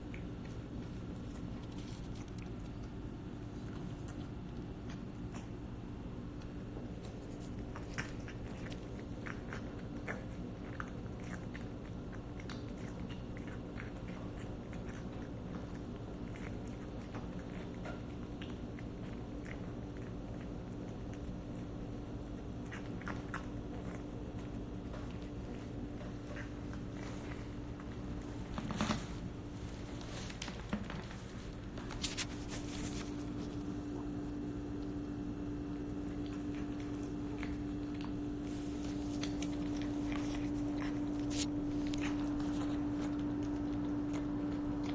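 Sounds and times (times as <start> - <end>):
cat chewing wet food: 0.0 - 44.9
low steady hum: 0.0 - 44.9.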